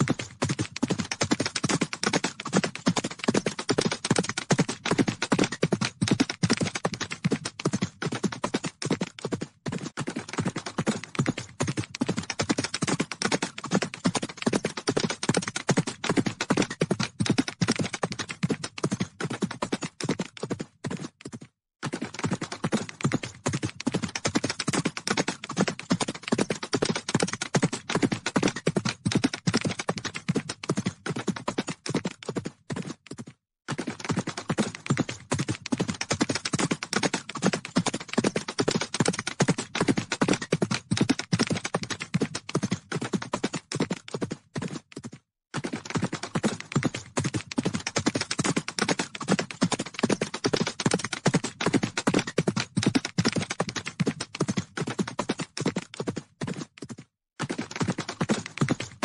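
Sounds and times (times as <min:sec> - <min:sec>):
horses galloping: 0:00.0 - 0:59.0.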